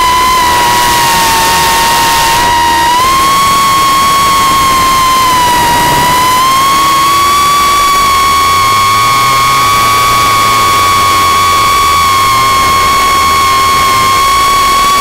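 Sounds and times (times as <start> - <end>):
propeller motor high whine: 0.0 - 15.0
wind rush on microphone: 0.0 - 15.0.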